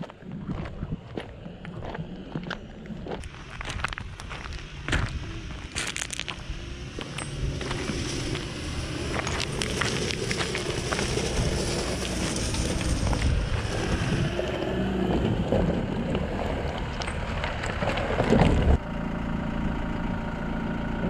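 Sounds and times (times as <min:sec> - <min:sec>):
wind noise: 0:00.0 - 0:18.8
vehicle engine and tyre rumble: 0:00.0 - 0:21.0.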